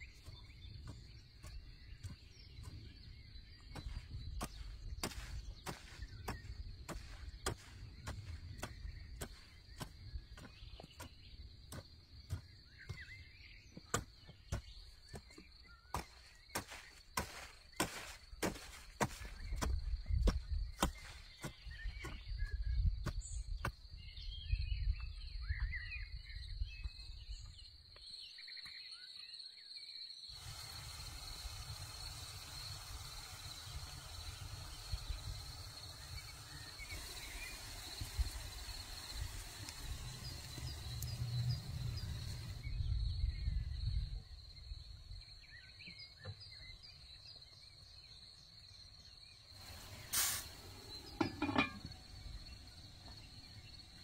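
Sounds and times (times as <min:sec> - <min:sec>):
crickets droning: 0:00.0 - 0:54.0
faint bird chirps: 0:00.0 - 0:54.0.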